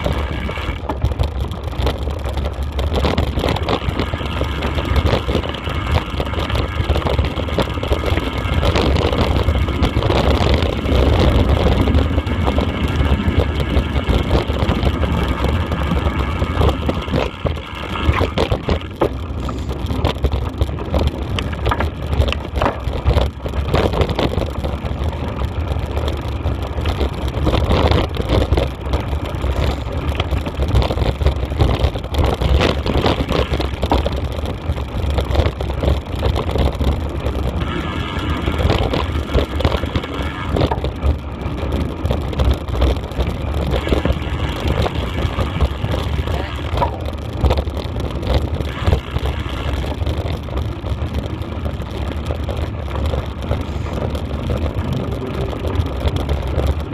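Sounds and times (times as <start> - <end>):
vehicle engine running: 0.0 - 56.9
wind rumble on microphone: 0.0 - 56.9.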